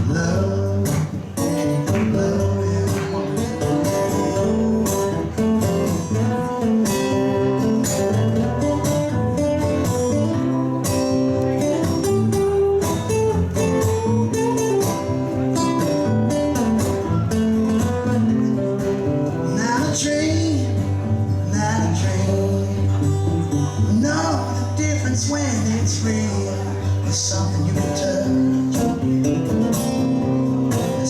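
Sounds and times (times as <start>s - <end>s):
lead guitar: 0.0s - 31.0s
live band playing: 0.0s - 31.0s.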